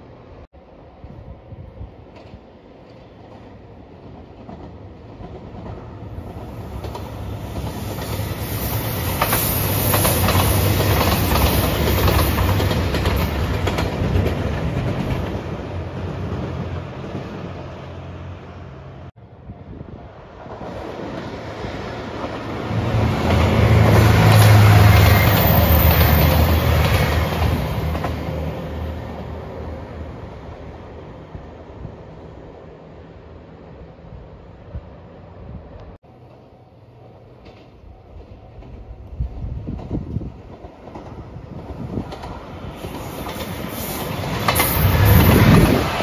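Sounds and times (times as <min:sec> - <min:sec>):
diesel train rumbling past: 0:00.0 - 0:46.0.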